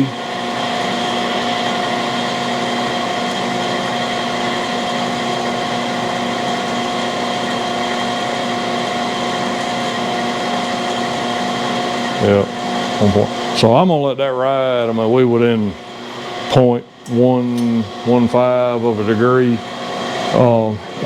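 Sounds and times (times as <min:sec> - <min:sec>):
grinding machine humming and whining: 0:00.0 - 0:21.0.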